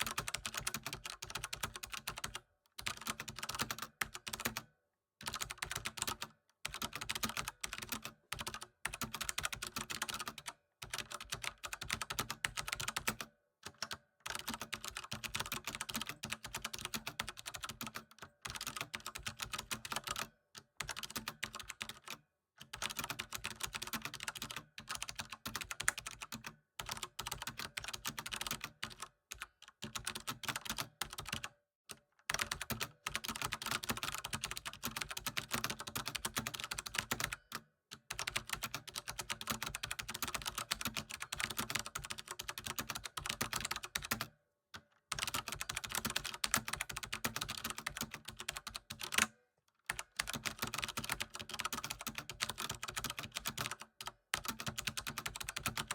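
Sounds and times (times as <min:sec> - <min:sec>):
computer keyboard typing: 0:00.0 - 0:31.5, 0:32.3 - 0:44.4, 0:45.1 - 0:55.9.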